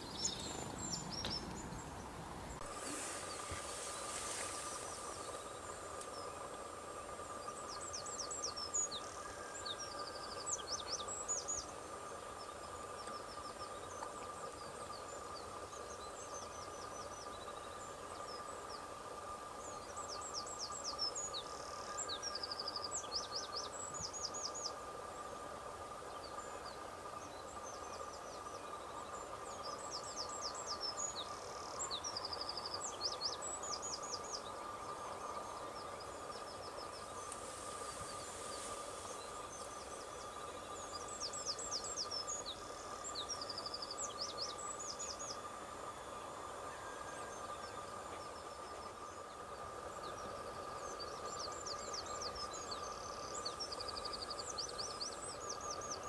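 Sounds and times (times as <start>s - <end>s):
songbird singing trills: 0.0s - 56.0s
steady background hum: 0.0s - 56.0s.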